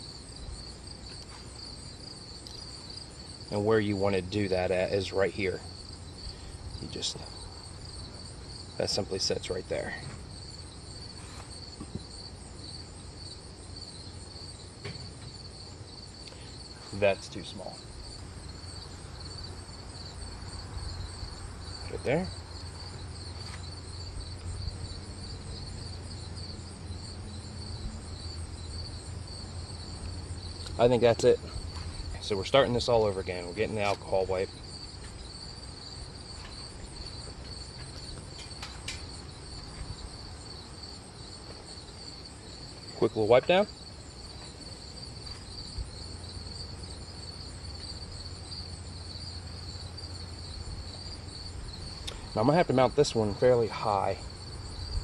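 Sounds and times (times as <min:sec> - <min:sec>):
crickets chirping: 0:00.0 - 0:55.0
low constant hum: 0:00.0 - 0:55.0.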